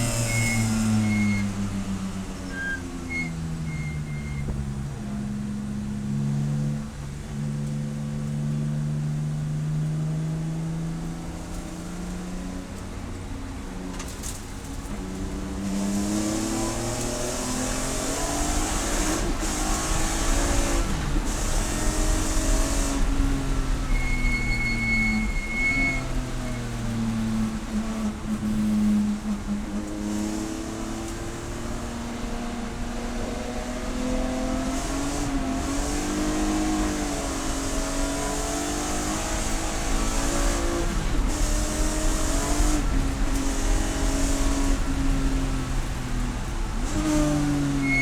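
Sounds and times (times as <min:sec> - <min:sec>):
race car engine running hard: 0:00.0 - 0:48.0.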